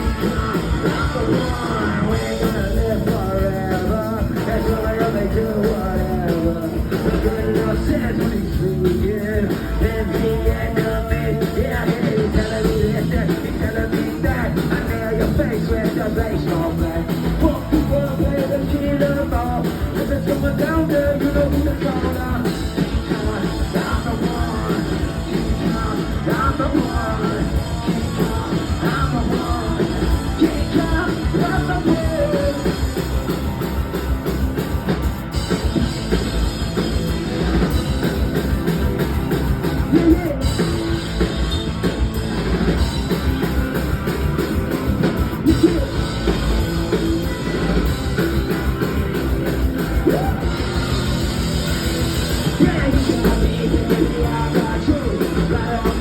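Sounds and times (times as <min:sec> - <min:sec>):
person singing: 0:00.0 - 0:33.8, 0:37.6 - 0:41.2, 0:45.4 - 0:51.2, 0:52.3 - 0:56.0
punk rock band playing live: 0:00.0 - 0:56.0.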